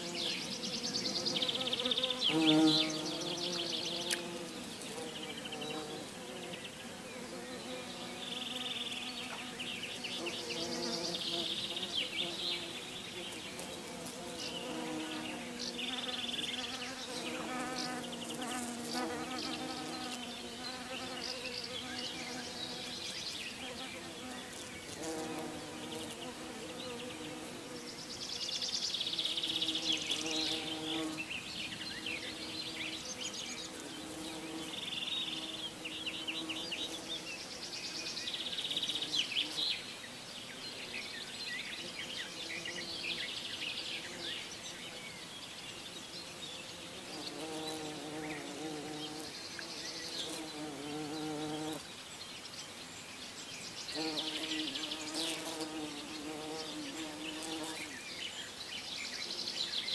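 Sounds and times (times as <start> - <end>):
bumblebee buzzing: 0.0 - 39.8, 46.2 - 51.9, 53.9 - 58.0
birds chirping and trilling: 0.0 - 59.9.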